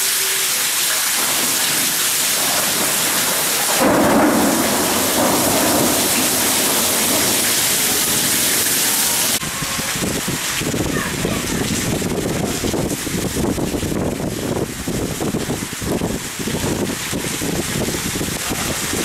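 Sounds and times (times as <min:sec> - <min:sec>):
heavy rain splashing on paving: 0:00.0 - 0:19.0
thunder rumbling: 0:01.1 - 0:19.0.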